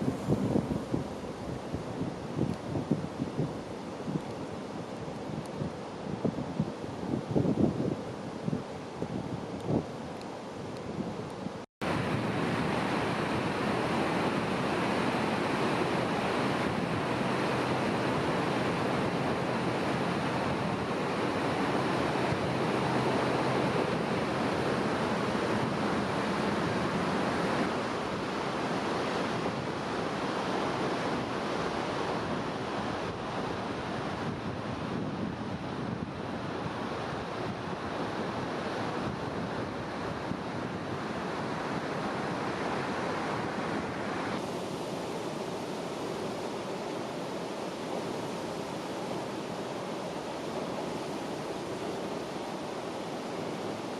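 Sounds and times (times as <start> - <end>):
steady rushing noise: 0.0 - 53.9.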